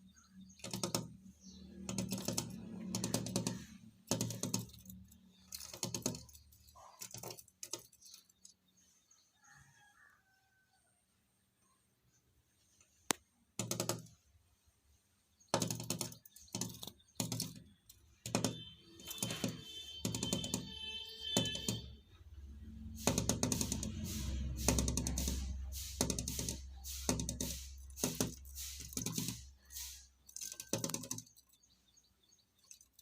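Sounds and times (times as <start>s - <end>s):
bird pecking at window glass: 0.1s - 8.6s, 12.9s - 14.3s, 15.3s - 22.0s, 22.7s - 33.0s.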